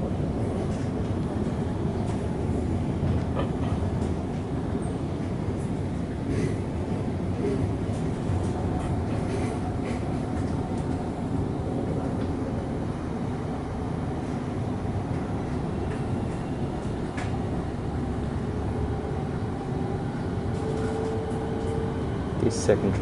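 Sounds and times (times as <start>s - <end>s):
electric train running rumble: 0.0s - 23.0s.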